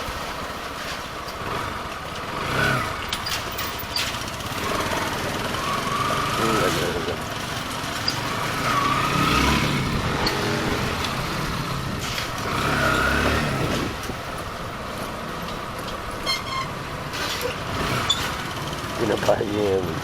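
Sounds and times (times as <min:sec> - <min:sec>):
motorcycle engine accelerating: 0:01.3 - 0:20.0.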